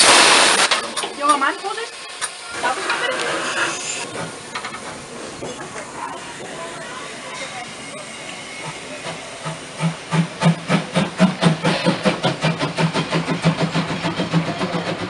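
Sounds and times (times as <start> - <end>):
steam hissing: 0.0 - 15.0
steam locomotive chuffing: 0.0 - 15.0.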